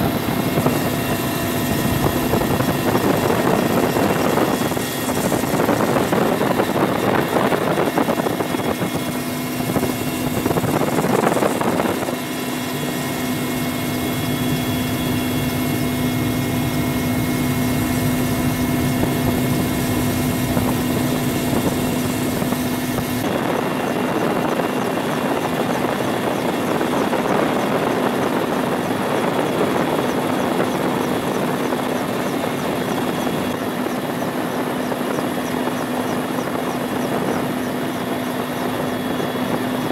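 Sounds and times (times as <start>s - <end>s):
helicopter engines and rotor drone: 0.0s - 39.9s.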